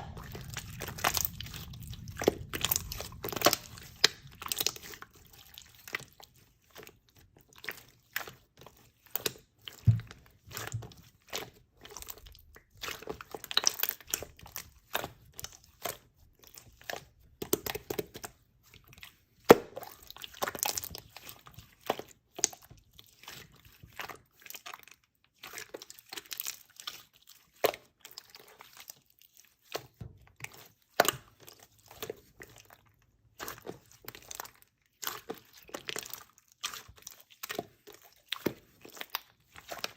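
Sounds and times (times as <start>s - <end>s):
slime popping and crackling: 0.0s - 18.3s, 19.4s - 24.7s, 29.7s - 39.9s.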